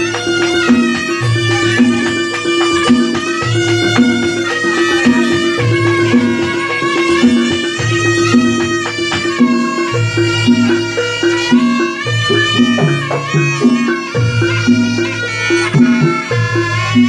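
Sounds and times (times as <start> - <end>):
reedy wind instrument melody: 0.0 - 17.0.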